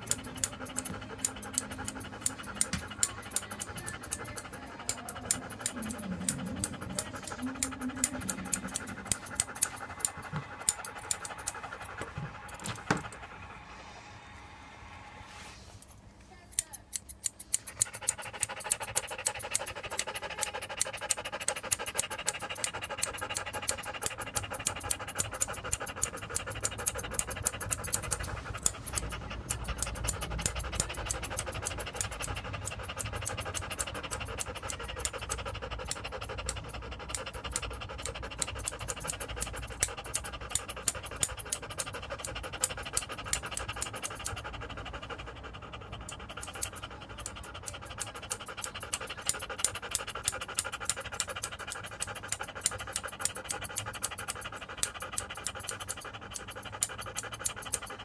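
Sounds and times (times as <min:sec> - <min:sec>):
grooming scissors snipping: 0:00.0 - 0:13.3, 0:15.8 - 0:45.3, 0:46.0 - 0:58.0.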